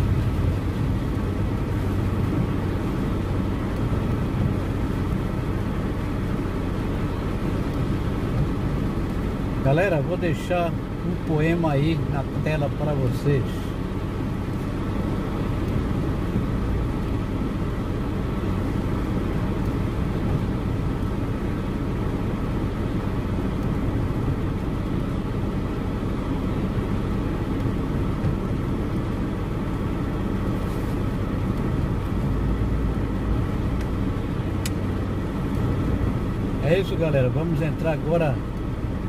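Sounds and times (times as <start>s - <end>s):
car engine hum: 0.0s - 39.0s
rain hissing on a car: 0.0s - 39.0s.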